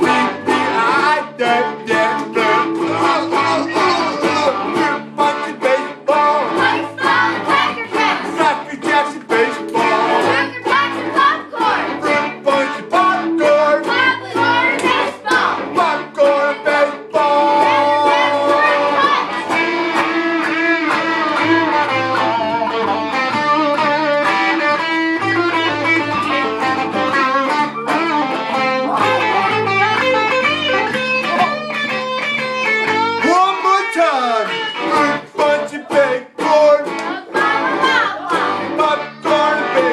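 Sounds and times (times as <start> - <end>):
guitar-led music: 0.0 - 39.9.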